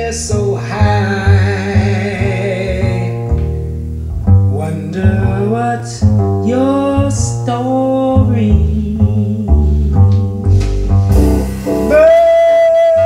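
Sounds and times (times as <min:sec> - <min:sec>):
low bass notes: 0:00.0 - 0:13.0
plucked jazz guitar: 0:00.0 - 0:13.0.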